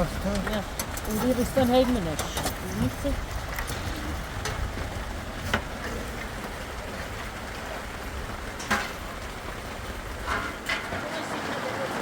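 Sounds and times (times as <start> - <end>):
low wind rumble: 0.0 - 11.0
steady rain: 0.0 - 12.0.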